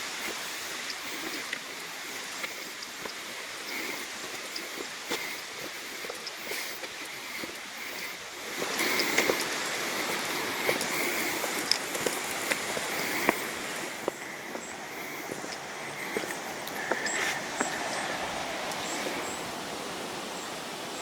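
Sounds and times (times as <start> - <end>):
footsteps on gravel: 0.0 - 19.4
creek water running: 0.0 - 21.0.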